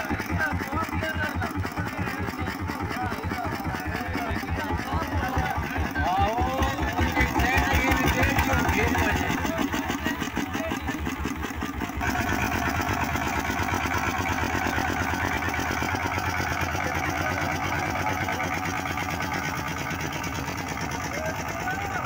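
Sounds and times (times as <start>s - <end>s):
diesel boat engine knocking: 0.0s - 22.0s.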